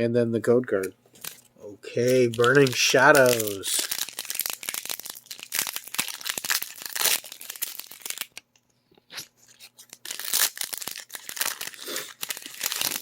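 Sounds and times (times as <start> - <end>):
foil wrapper tearing and crinkling: 1.2 - 8.4, 9.2 - 13.0.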